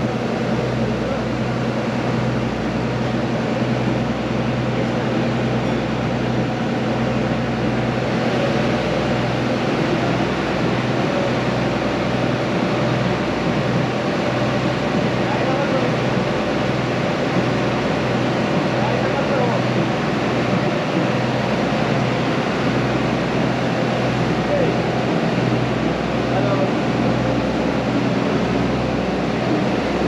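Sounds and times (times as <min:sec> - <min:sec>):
ferry engine low hum: 0:00.0 - 0:30.0.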